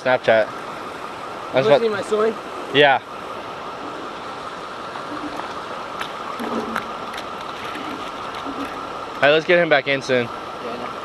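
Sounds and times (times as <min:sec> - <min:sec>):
water rushing below spillway: 0:00.0 - 0:11.0.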